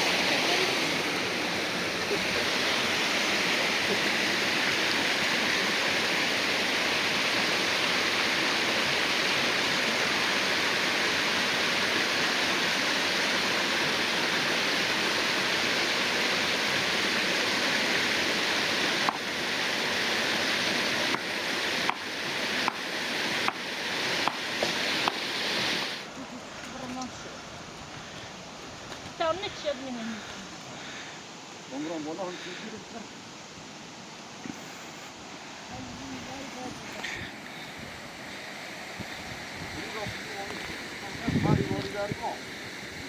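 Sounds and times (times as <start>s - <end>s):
running water rushing: 0.0s - 43.0s.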